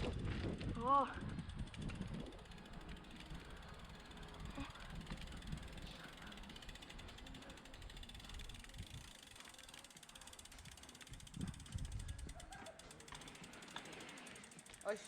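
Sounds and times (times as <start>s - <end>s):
bike freewheel clicking: 0.0s - 15.0s.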